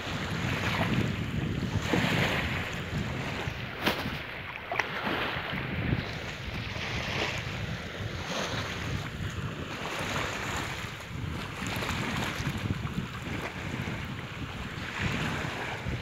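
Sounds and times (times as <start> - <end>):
small waves lapping: 0.0 - 16.0
wind buffeting microphone: 0.0 - 16.0.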